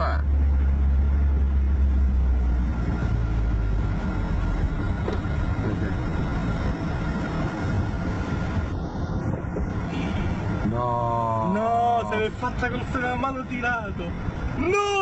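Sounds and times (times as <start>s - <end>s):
car engine and road noise inside cabin: 0.0s - 15.0s.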